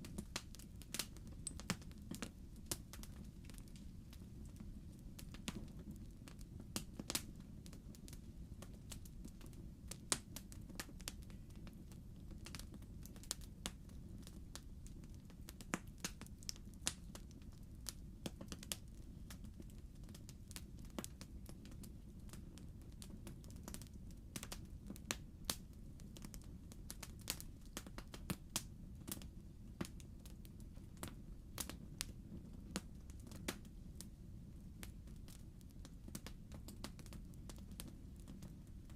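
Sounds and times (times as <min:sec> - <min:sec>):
fire pops and snaps: 0:00.0 - 0:34.1, 0:34.8 - 0:38.9
wood fire crackling: 0:00.0 - 0:38.9.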